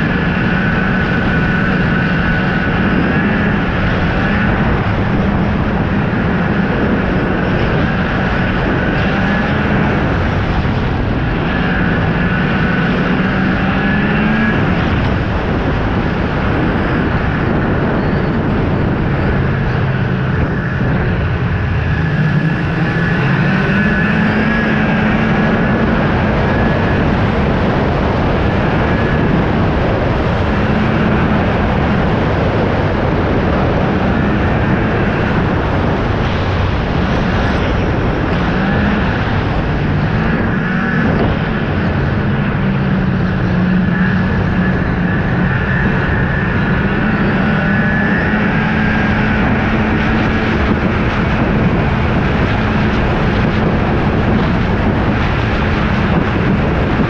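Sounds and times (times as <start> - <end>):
snowmobile engine running: 0.0 - 57.0
steady rush of noise: 0.0 - 57.0.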